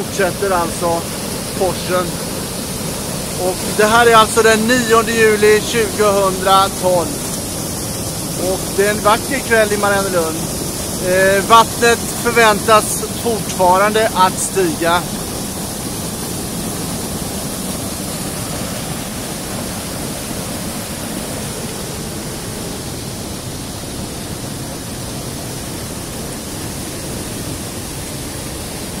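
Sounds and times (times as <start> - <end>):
river rapids rushing: 0.0 - 29.0.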